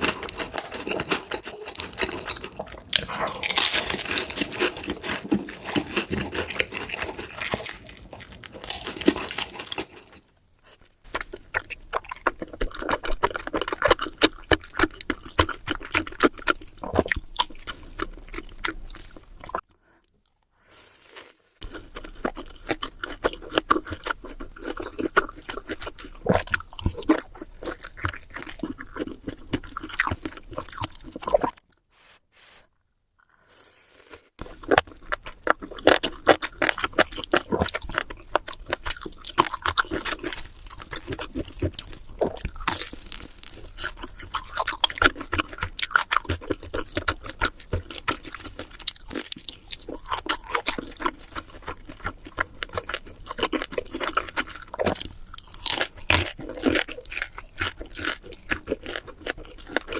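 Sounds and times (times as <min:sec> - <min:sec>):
crunching and chewing food: 0:00.0 - 0:31.9, 0:33.2 - 0:59.9.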